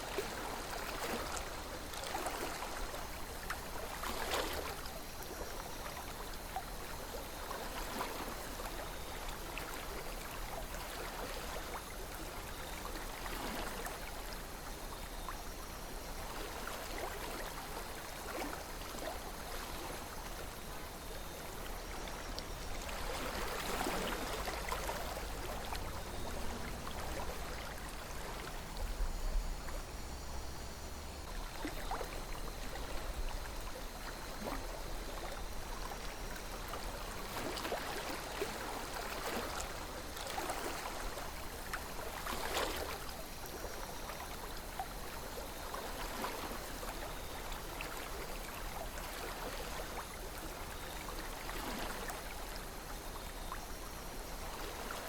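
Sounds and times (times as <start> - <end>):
water gurgles and splashes: 0.0 - 55.0.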